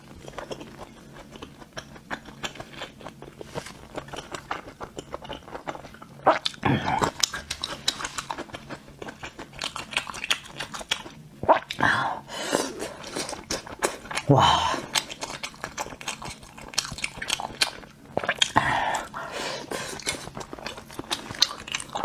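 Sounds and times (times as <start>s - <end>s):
close chewing with wet mouth clicks: 0.0s - 11.8s, 12.9s - 22.0s.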